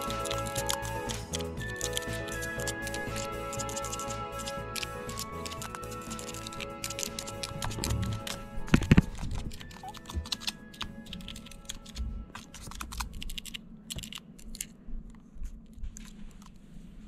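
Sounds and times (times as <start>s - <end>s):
clicking and scratching on plastic: 0.0s - 16.6s.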